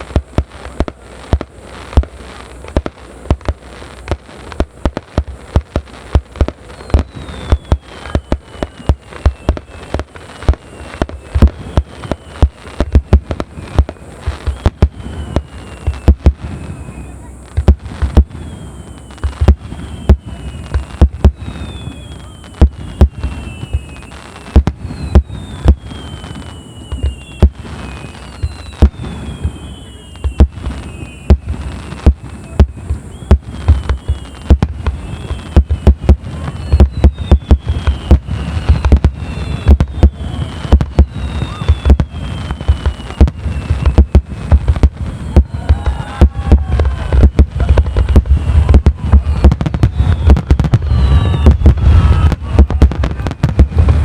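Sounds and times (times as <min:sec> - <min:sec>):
falling firework whistles: 0:00.0 - 0:54.0.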